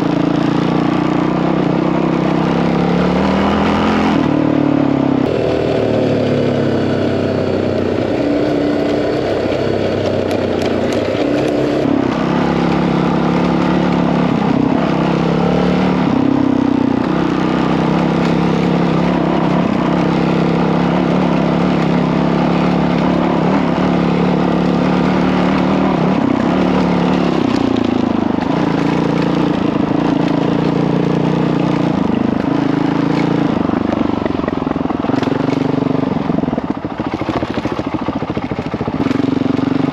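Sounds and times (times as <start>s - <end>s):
dirt bike engine revving: 0.0s - 39.9s
wind and tyres rushing: 0.0s - 39.9s.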